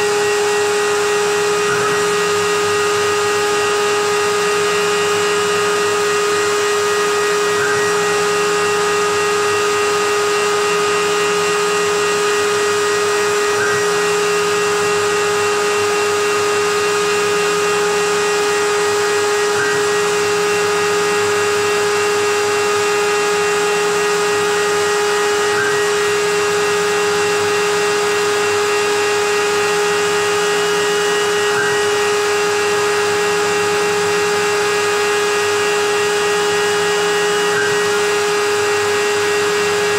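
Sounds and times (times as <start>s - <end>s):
cnc router spindle whine: 0.0s - 39.9s
dust extraction vacuum rushing: 0.0s - 39.9s.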